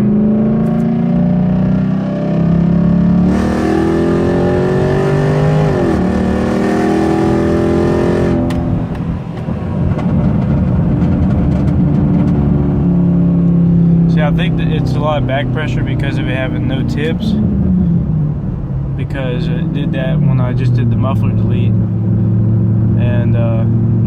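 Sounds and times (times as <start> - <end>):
car exhaust accelerating: 0.0 - 24.0
rough choppy exhaust on deceleration: 0.0 - 24.0.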